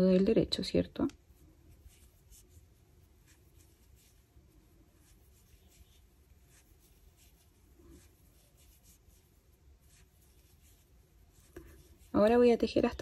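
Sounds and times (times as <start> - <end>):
knitting needles scratching and ticking: 0.0 - 13.0.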